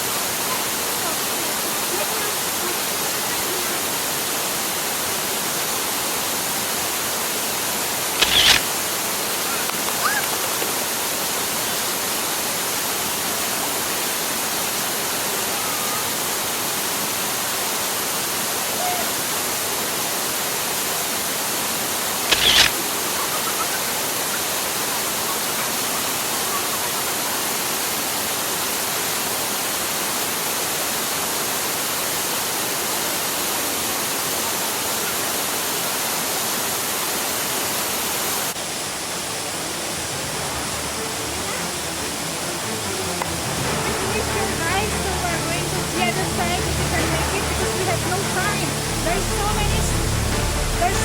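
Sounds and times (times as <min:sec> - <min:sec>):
stream water and waterfalls rushing: 0:00.0 - 0:51.0.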